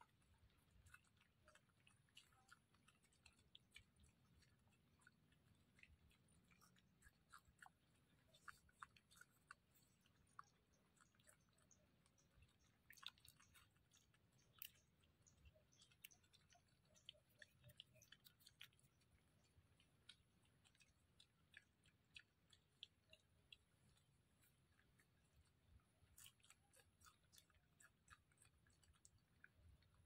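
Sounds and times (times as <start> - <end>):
piglet chewing and rooting: 0.0 - 30.0.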